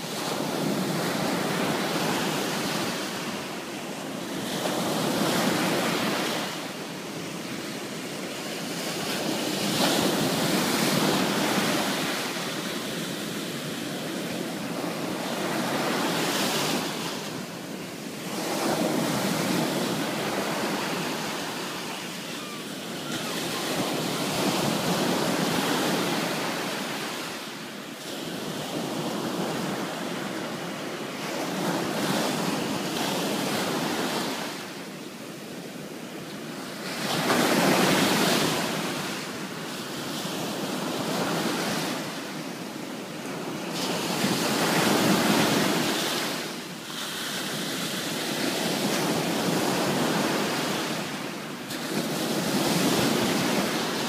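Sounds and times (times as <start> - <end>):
small waves breaking on sand: 0.0 - 54.0.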